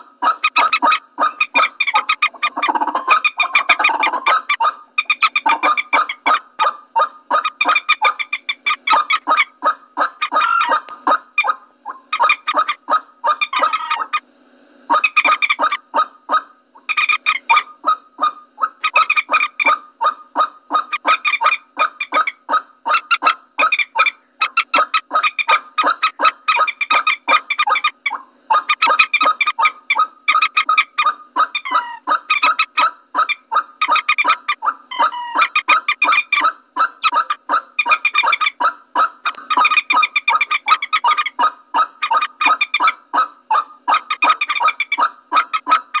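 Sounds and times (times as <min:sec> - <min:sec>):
moorhen calls: 0:00.0 - 0:14.2, 0:14.9 - 0:46.0.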